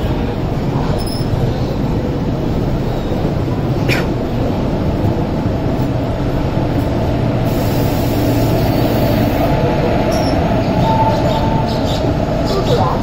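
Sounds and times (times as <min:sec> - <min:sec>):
train rumbling along track: 0:00.0 - 0:13.0.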